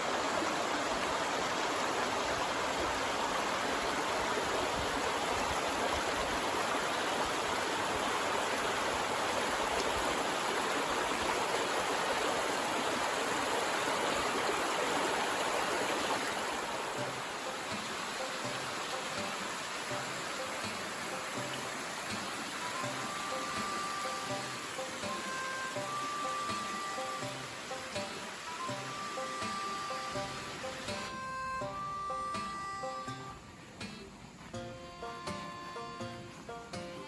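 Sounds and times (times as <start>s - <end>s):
stream babbling: 0.0s - 37.0s.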